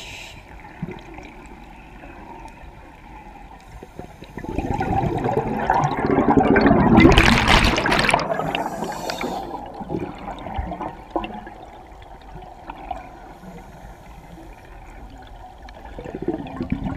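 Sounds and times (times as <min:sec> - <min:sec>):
underwater bubbles rushing: 0:00.6 - 0:16.9.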